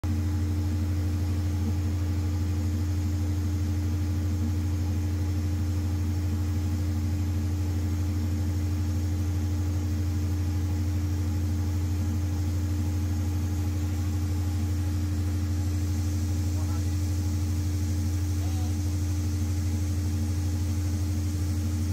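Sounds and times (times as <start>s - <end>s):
generator low drone: 0.0s - 21.9s
higher steady hum: 0.0s - 21.9s.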